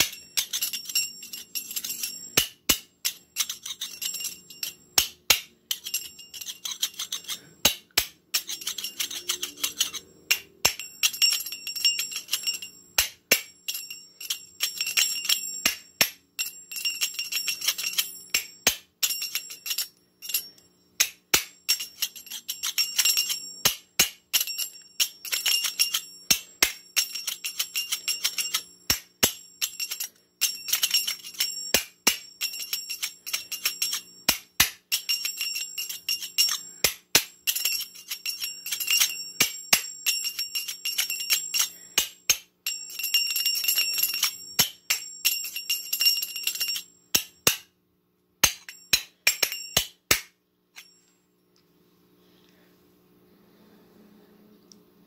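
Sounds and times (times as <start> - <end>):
metallic clicking and clinking: 0.0 - 47.8, 48.4 - 51.1.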